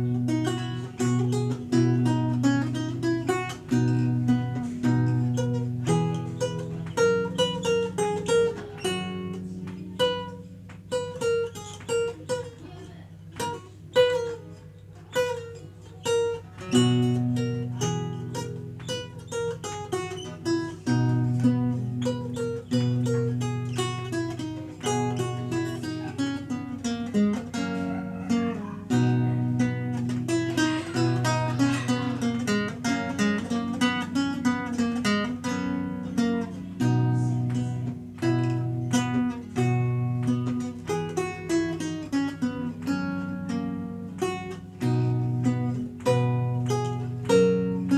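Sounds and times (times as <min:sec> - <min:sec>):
solo lute playing: 0:00.0 - 0:47.9.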